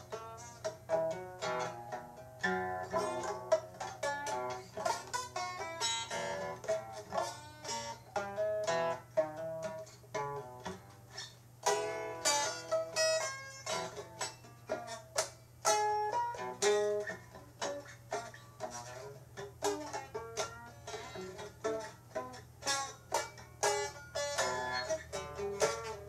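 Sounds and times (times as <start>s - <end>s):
plucked-string music: 0.0s - 26.0s.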